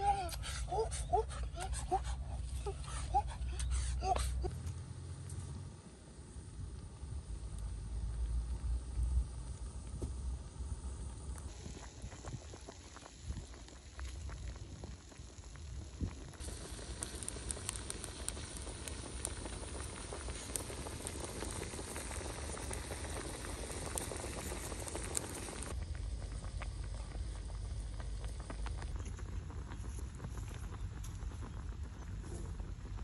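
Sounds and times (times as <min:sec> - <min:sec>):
water boiling in a wok: 0:01.5 - 0:33.0
wood fire crackling: 0:01.5 - 0:33.0.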